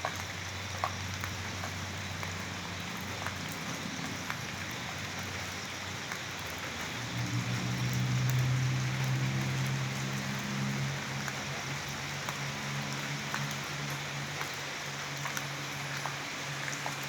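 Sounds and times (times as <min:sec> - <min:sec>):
raindrops ticking: 0:00.0 - 0:17.0
steady rain falling: 0:00.0 - 0:17.0.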